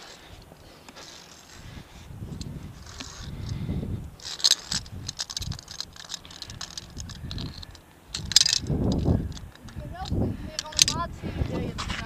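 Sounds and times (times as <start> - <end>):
carabiners rattling against steel cable: 0.0 - 12.0.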